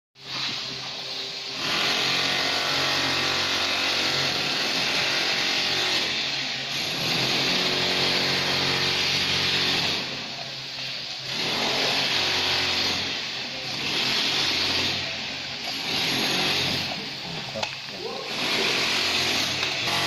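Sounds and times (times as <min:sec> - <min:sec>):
power tool hissing over hum: 0:00.2 - 0:20.0.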